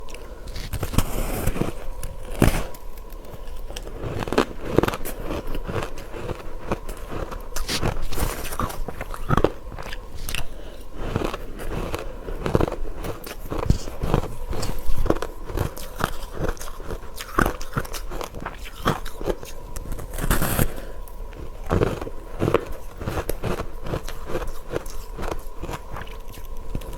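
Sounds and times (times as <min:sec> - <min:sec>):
crunching ice: 0:00.0 - 0:26.9
grinding chews: 0:00.0 - 0:26.9.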